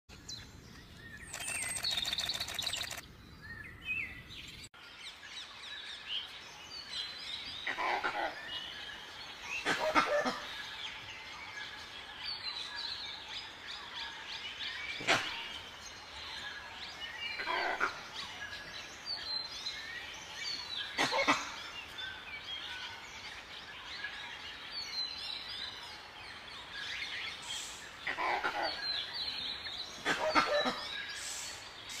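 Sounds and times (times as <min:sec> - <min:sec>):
small birds chirping: 0:00.1 - 0:32.0.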